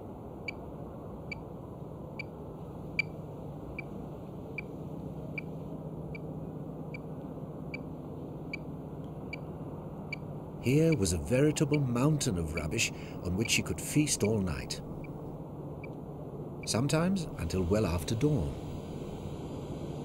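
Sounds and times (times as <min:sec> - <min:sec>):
steady low hiss: 0:00.0 - 0:20.0.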